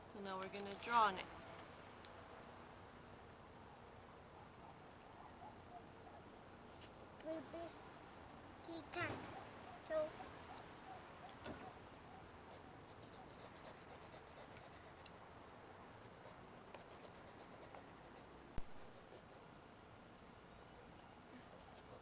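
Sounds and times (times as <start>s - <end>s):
faint ticks and scratches: 0.0s - 2.2s, 3.5s - 19.6s, 21.0s - 22.0s.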